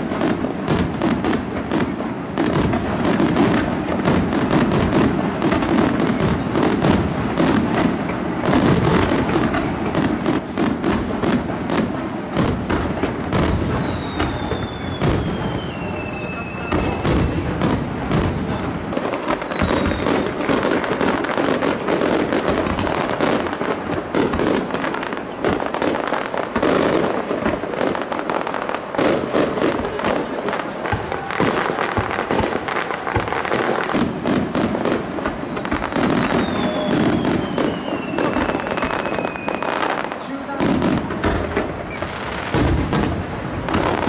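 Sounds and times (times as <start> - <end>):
falling firework whistle: 0.0 - 44.0
fireworks crackling and banging: 0.0 - 44.0.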